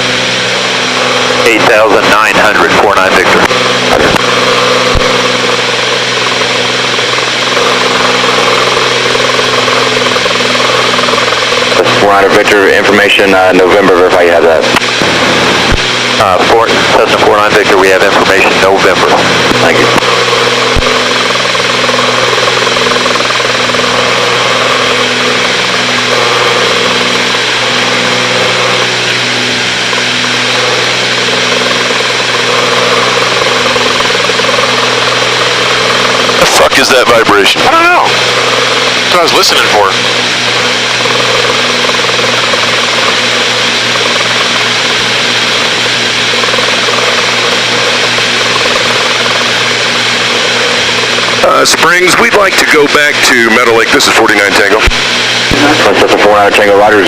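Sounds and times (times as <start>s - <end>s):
twin piston aircraft engines droning: 0.0s - 57.0s.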